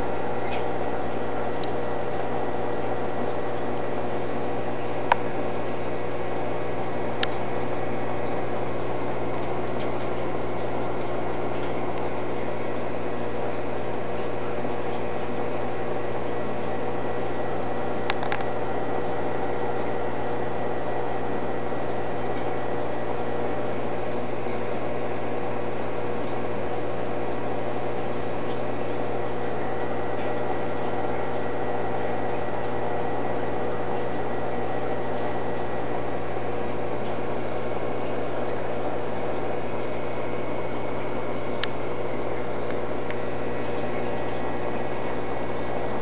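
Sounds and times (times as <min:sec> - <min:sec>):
aquarium equipment hum: 0:00.0 - 0:46.0.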